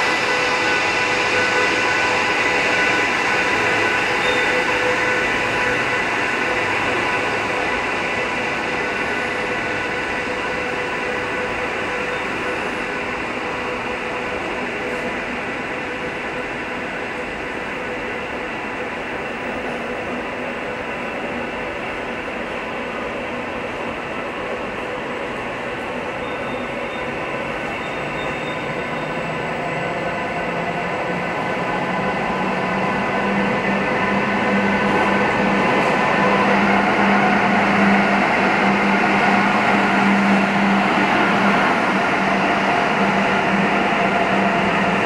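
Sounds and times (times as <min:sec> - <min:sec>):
electric locomotive humming: 0:00.0 - 0:45.0
train wheel-on-rail rumble: 0:00.0 - 0:45.0.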